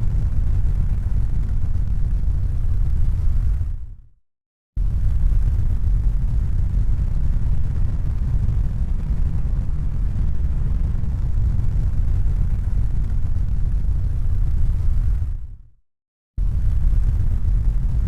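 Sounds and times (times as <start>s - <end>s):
low rumble of noise: 0.0s - 4.1s, 4.8s - 15.7s, 16.4s - 18.0s.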